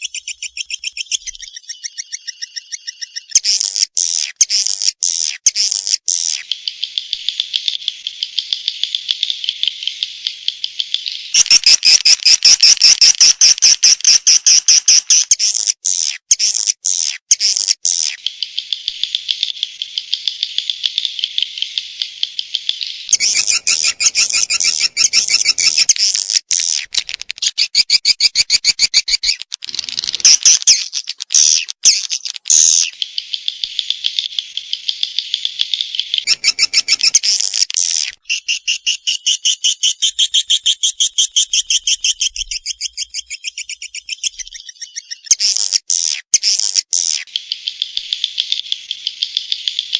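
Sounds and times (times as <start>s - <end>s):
swiftlet chirping and twittering: 0.0s - 49.9s.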